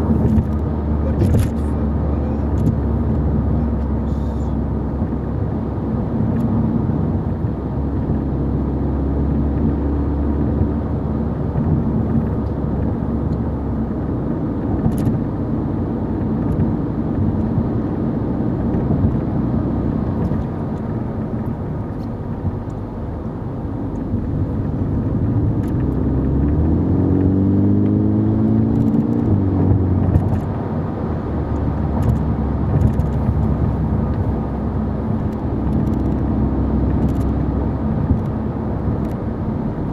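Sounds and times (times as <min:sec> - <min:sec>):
car engine hum: 0:00.0 - 0:39.9
road noise: 0:00.0 - 0:39.9.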